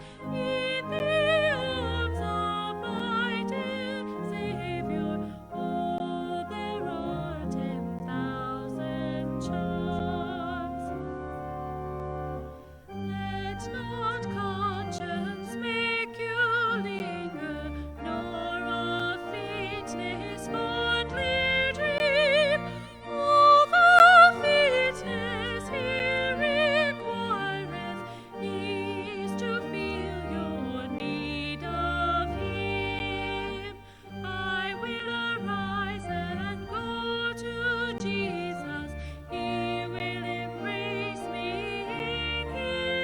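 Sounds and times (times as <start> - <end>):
classical church music with vibrato: 0.0 - 43.0.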